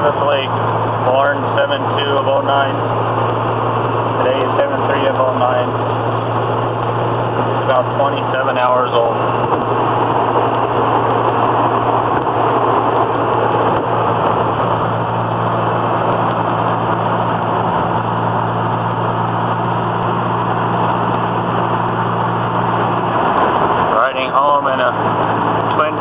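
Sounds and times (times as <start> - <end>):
car engine running steadily: 0.0 - 26.0.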